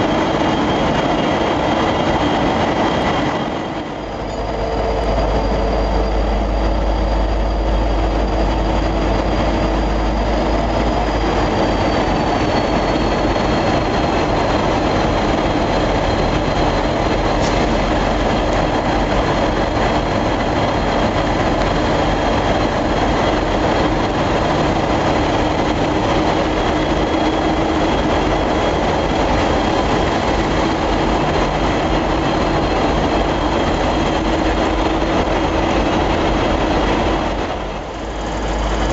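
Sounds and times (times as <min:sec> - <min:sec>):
train low rumble: 0:00.0 - 0:38.9.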